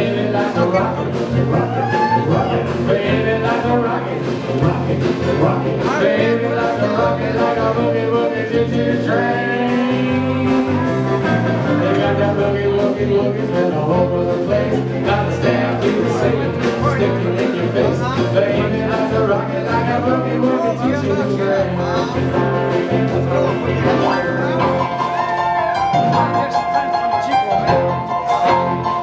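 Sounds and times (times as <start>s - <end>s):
live country band playing: 0.0s - 29.0s.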